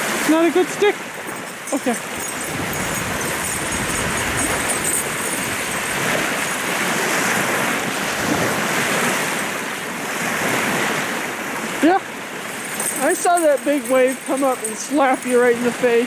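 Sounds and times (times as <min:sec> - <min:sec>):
waves washing onto shore: 0:00.0 - 0:16.0.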